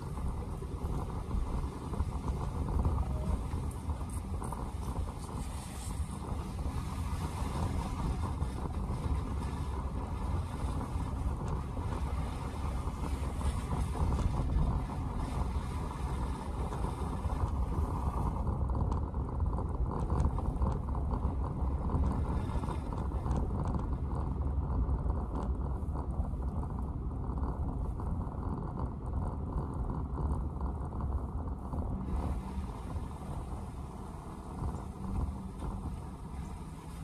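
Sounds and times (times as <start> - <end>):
car tyres and engine rumbling: 0.0 - 37.0.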